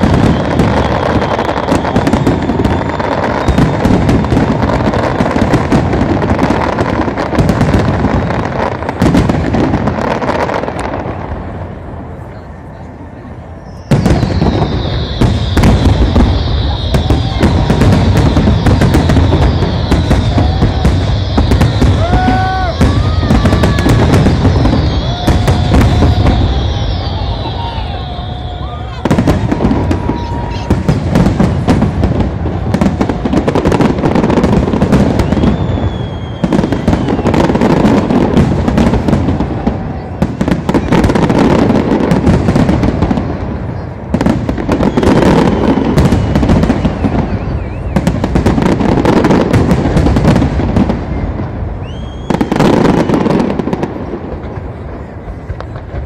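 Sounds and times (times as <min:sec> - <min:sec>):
fireworks crackling and popping: 0:00.0 - 0:56.0.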